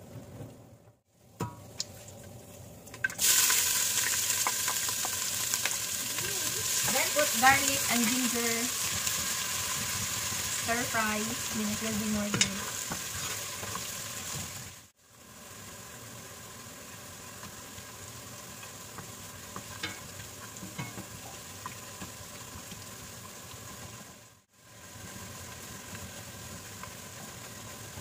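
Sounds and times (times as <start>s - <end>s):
garlic sizzling in hot oil: 1.4s - 28.0s.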